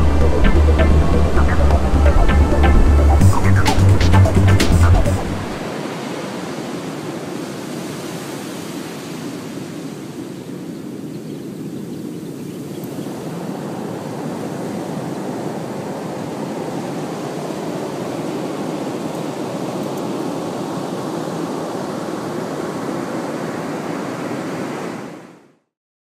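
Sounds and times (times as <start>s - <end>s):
ocean waves breaking: 0.0s - 11.0s, 12.9s - 25.4s.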